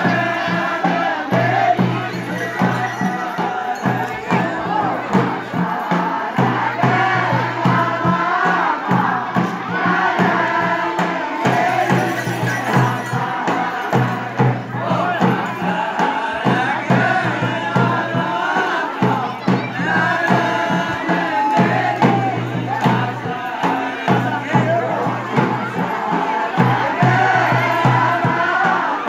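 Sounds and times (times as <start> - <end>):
crowd singing folk song: 0.0 - 29.0
steady rhythmic beat: 0.0 - 29.0.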